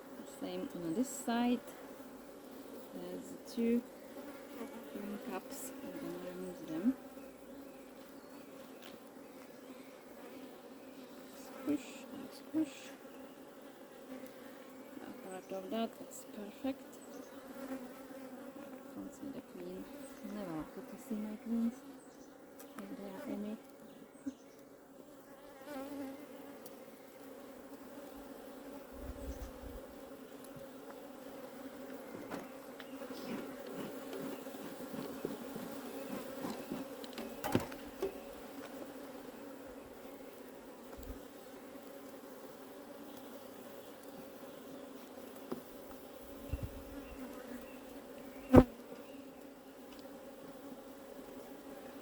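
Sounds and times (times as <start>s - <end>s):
bees buzzing: 0.0s - 52.0s.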